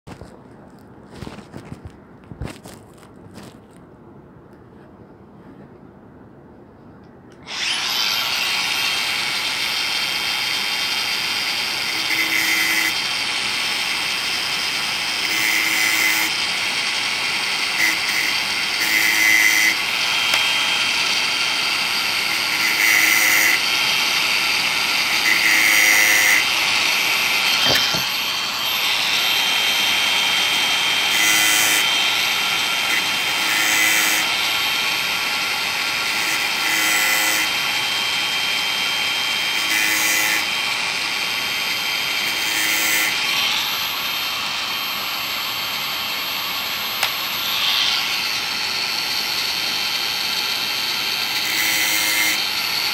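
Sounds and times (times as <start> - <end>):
angle grinder whining: 7.3 - 52.9.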